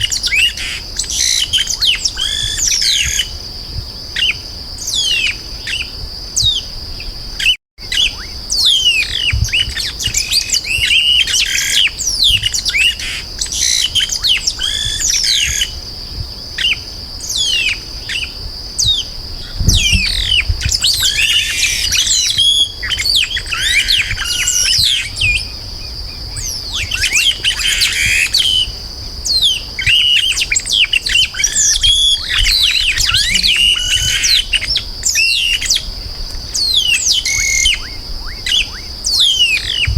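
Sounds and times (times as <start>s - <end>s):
bird singing whistled notes: 4.2s - 15.7s, 16.6s - 39.9s.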